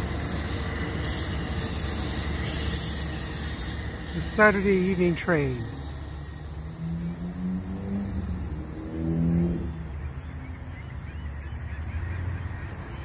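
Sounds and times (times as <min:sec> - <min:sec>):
train rumble with droning pitch: 0:00.0 - 0:13.0.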